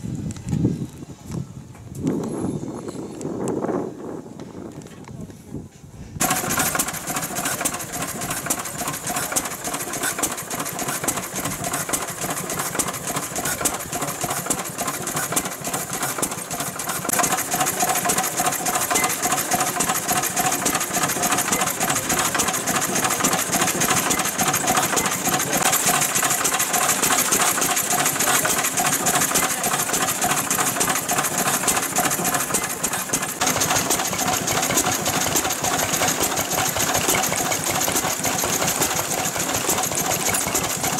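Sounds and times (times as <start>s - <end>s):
stationary engines running: 6.2s - 40.9s.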